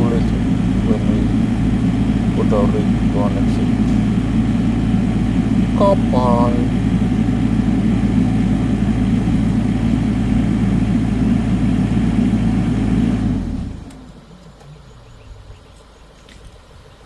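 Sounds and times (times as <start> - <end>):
large engine idling: 0.0 - 15.5.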